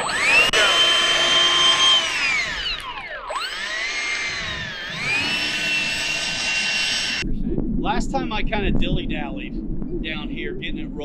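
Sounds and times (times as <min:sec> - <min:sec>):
electric ducted fans whining: 0:00.0 - 0:11.0.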